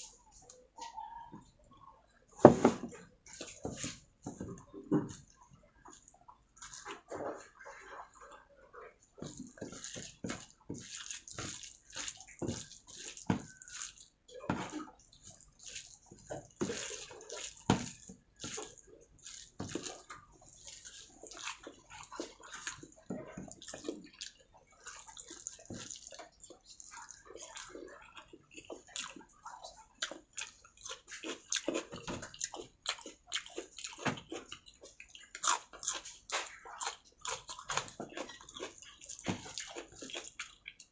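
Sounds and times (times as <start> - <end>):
wet chewing and mouth smacks: 0.0 - 2.2, 3.0 - 40.9.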